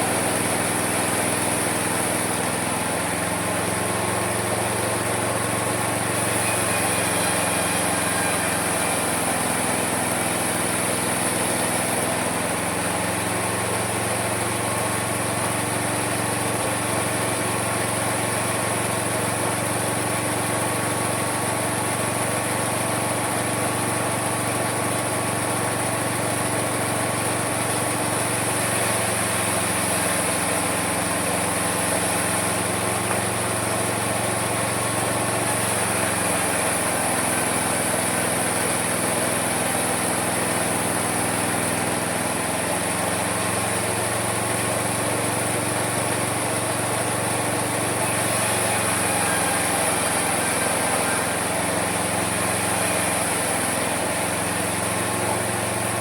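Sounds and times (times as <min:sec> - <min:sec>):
constant high whine: 0:00.0 - 0:23.0, 0:23.6 - 0:56.0
sawmill sawing wood: 0:00.0 - 0:56.0.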